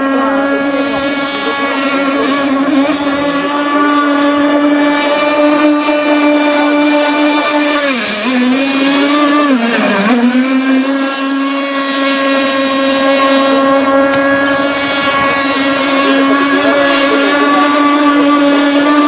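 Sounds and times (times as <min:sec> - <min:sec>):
model boat engine buzzing: 0:00.0 - 0:19.0.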